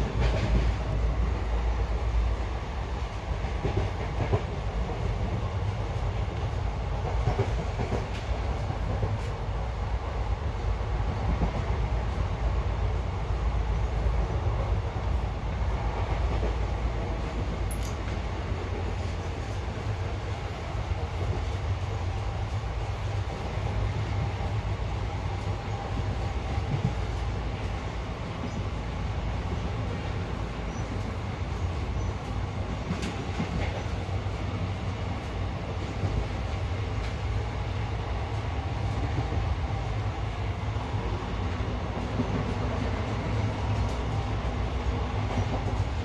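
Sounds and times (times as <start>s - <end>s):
train rumbling on track: 0.0s - 46.0s.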